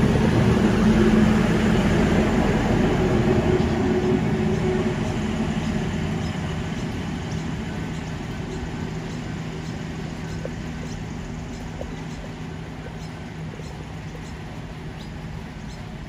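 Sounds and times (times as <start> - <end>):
diesel railcar engine hum: 0.0 - 16.0.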